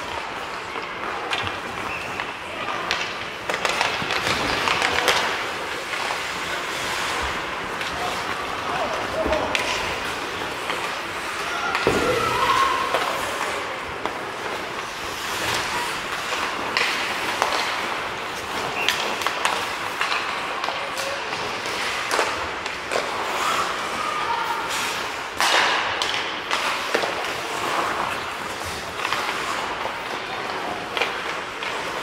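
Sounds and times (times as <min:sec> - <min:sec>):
hockey sticks and puck clacking: 0:00.0 - 0:32.0
skates scraping ice: 0:00.0 - 0:32.0.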